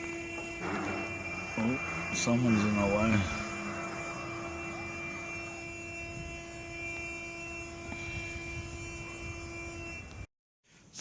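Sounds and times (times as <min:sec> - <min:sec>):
steady hum: 0:00.0 - 0:10.3.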